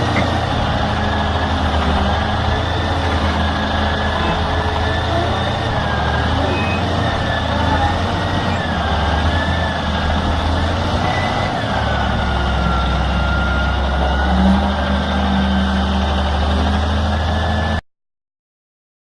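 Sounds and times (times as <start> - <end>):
heavy vehicle engine humming: 0.0 - 17.8.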